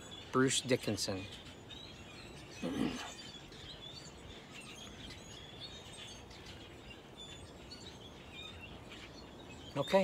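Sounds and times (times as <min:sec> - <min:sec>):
birds chirping: 0:00.0 - 0:10.0
outdoor background hiss: 0:00.0 - 0:10.0.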